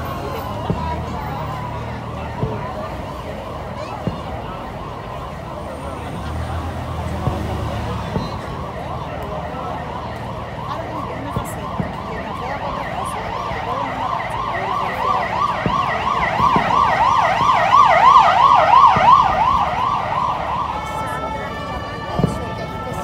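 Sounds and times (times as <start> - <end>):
emergency vehicle siren: 0.0 - 23.0.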